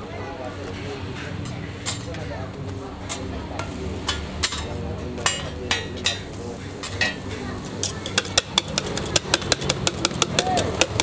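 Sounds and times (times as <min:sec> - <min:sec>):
metal utensils clinking on cookware: 0:00.8 - 0:02.3, 0:03.0 - 0:11.0.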